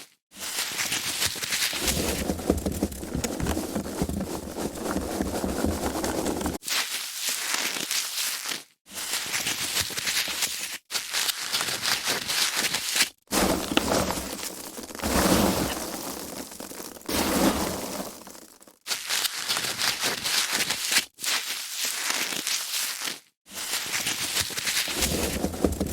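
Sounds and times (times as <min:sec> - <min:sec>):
foam packaging crackling: 0:00.4 - 0:25.9.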